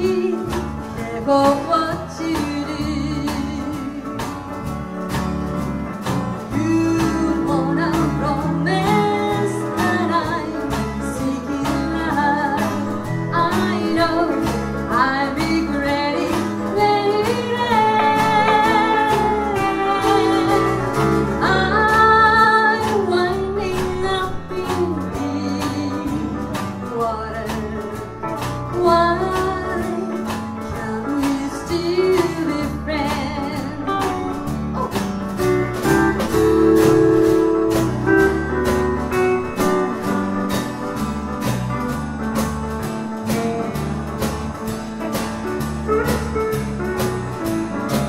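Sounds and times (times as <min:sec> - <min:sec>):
drums: 0:00.0 - 0:48.0
electric and acoustic guitars: 0:00.0 - 0:48.0
pedal steel guitar: 0:00.0 - 0:48.0.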